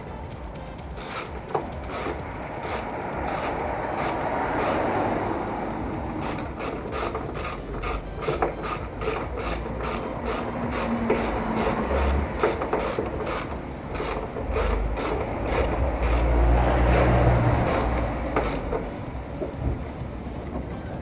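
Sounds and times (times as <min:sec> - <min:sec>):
ratchet wrench clicking: 0:00.0 - 0:19.6.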